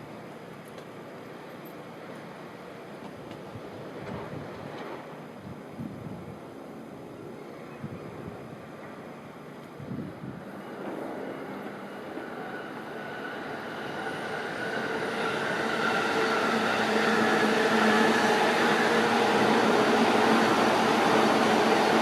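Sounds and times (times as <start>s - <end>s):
electric locomotive hum: 0.0s - 22.0s
train wheels rumbling on rails: 0.6s - 6.4s, 8.1s - 22.0s.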